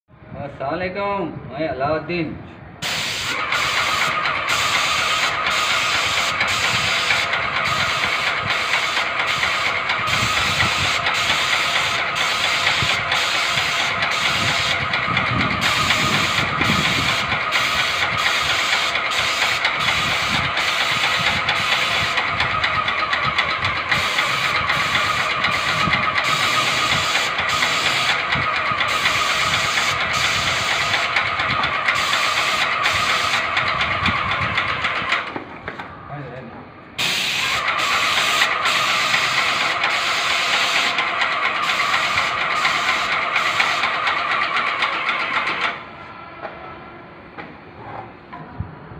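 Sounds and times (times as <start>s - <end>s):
paint sprayer hissing: 2.8s - 34.2s, 37.0s - 45.7s.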